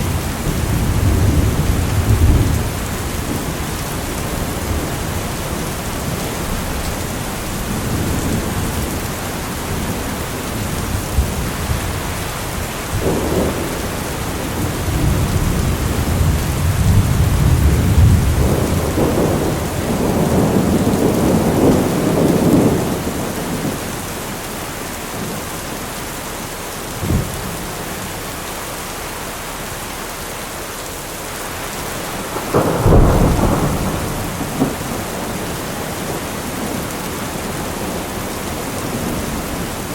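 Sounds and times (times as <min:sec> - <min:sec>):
rolling thunder: 0:00.0 - 0:24.1, 0:31.9 - 0:39.9
heavy rain: 0:00.0 - 0:39.9.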